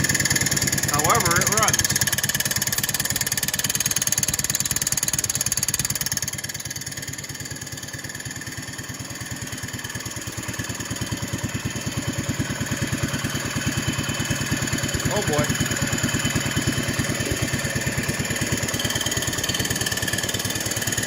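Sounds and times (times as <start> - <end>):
garden tractor engine idling: 0.0 - 21.0.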